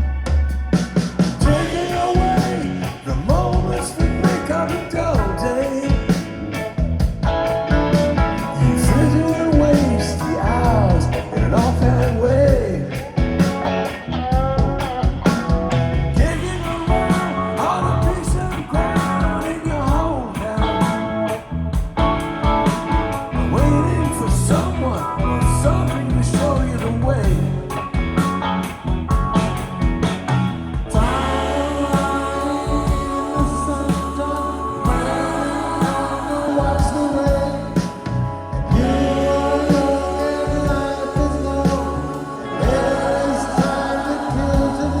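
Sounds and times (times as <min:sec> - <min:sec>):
rock song over loudspeakers: 0:00.0 - 0:45.0.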